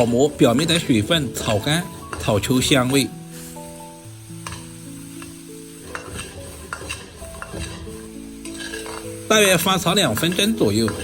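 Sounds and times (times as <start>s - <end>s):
bread sizzling in a wok: 0.0s - 11.0s
soft background music: 0.0s - 11.0s
spatula scraping a wok: 0.0s - 11.0s.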